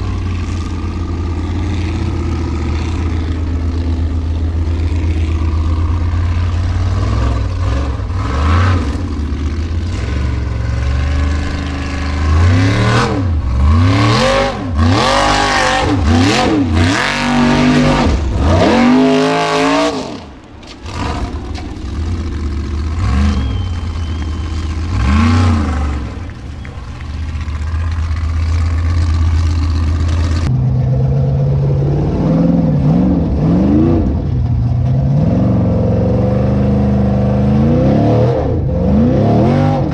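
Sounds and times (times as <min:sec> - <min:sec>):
buggy engine revving: 0:00.0 - 0:39.9.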